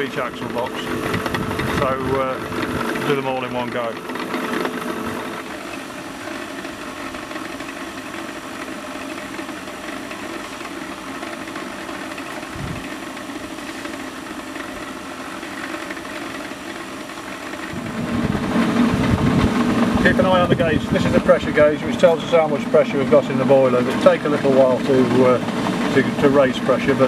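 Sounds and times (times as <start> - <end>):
electric blower fan humming: 0.0 - 27.0.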